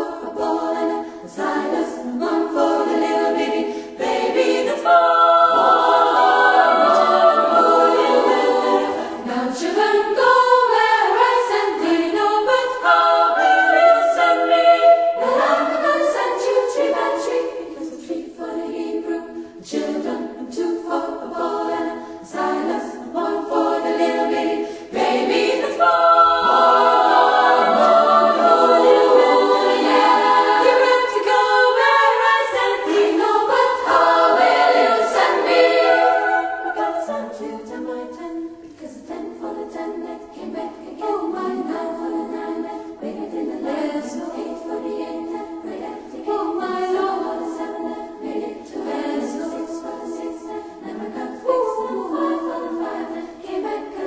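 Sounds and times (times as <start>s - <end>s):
unaccompanied choir singing: 0.0s - 54.0s.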